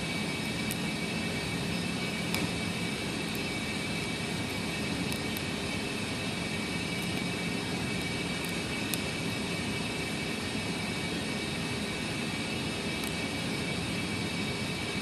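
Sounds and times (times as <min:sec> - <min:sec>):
steady droning noise: 0:00.0 - 0:15.0.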